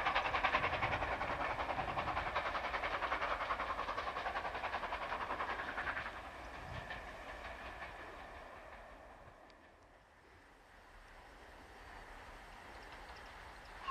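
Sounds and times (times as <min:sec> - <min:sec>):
steam locomotive chuffing: 0:00.0 - 0:13.9.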